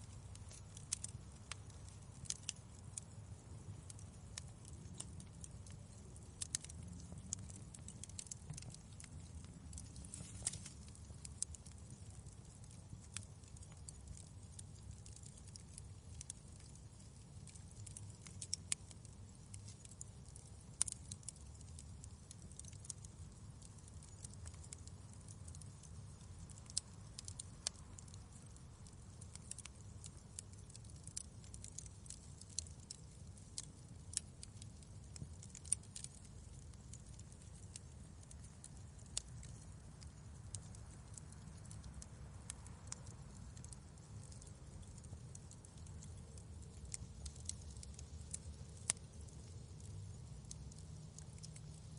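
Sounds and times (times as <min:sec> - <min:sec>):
low steady fire rumble: 0:00.0 - 0:51.9
wood fire crackling and popping: 0:00.0 - 0:51.9.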